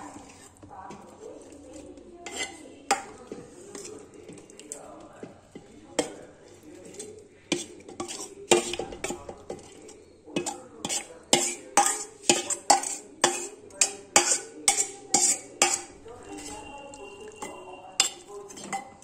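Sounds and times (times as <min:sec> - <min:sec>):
metal spoon scraping steel plate: 0:00.0 - 0:00.6, 0:01.4 - 0:04.4, 0:06.0 - 0:19.0.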